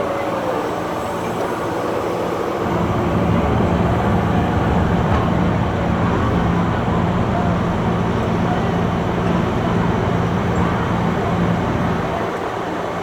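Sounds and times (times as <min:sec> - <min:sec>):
diesel engine running under load: 0:00.4 - 0:13.0.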